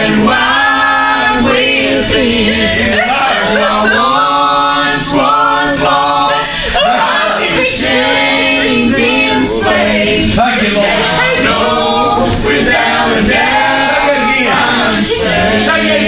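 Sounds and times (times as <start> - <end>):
group singing gospel: 0.0 - 16.0.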